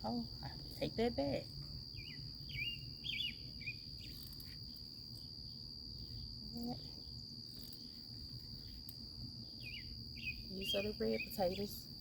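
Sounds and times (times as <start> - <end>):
crickets chirping: 0.0 - 12.0
bird chirping: 1.9 - 11.8.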